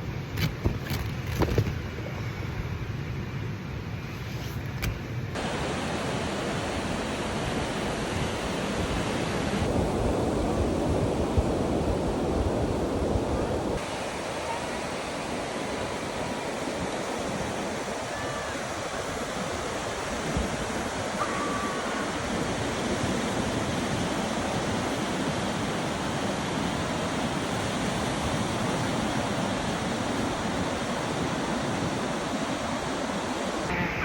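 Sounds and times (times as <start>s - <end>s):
waves washing on beach: 5.4s - 34.0s.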